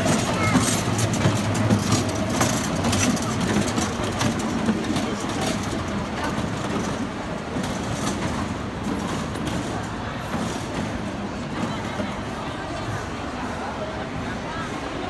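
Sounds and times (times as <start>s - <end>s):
ride-on train wheels rumbling on rails: 0.0s - 15.0s.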